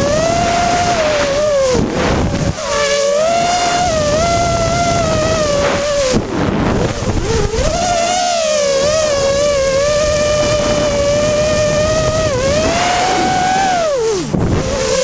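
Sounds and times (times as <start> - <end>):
drone propellers whining: 0.0 - 15.0
wind noise: 0.0 - 15.0.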